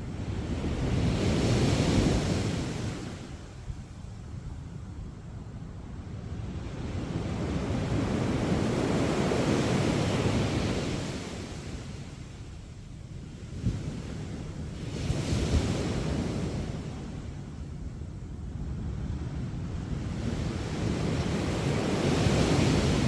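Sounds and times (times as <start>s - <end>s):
waves breaking on a beach: 0.0s - 23.0s.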